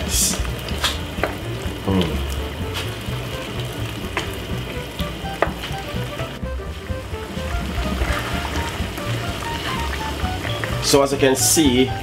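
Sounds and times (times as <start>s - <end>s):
background music: 0.0s - 12.0s
food sizzling in a frying pan: 0.0s - 12.0s.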